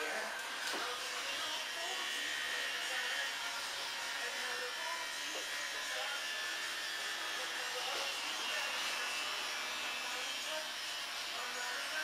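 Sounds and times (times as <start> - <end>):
electric hair clippers running: 0.0 - 12.0.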